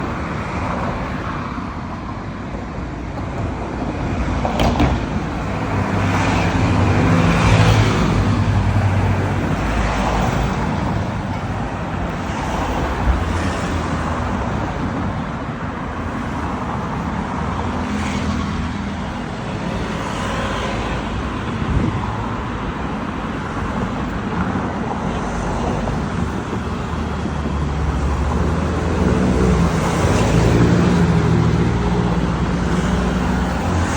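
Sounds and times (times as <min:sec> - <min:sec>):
vehicles passing: 0:00.0 - 0:33.9.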